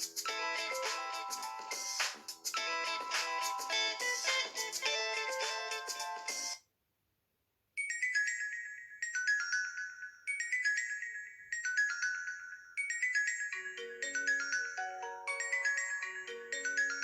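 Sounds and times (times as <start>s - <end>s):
marimba-like phone ringtone: 0.0s - 6.6s, 7.8s - 17.0s.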